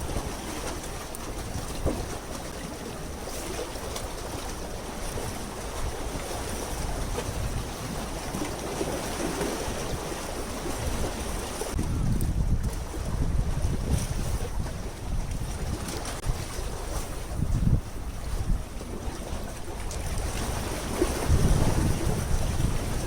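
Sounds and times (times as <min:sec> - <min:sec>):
sea water lapping: 0:00.0 - 0:23.0
wind on microphone: 0:00.0 - 0:23.0.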